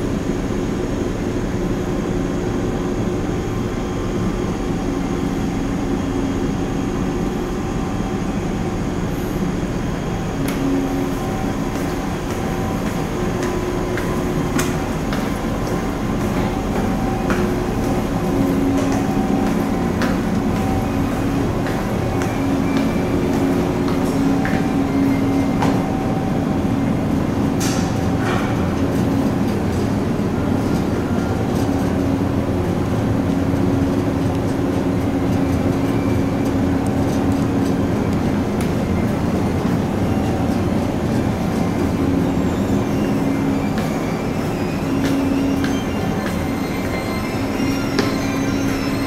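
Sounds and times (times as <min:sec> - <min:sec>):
ship engines droning: 0:00.0 - 0:49.0.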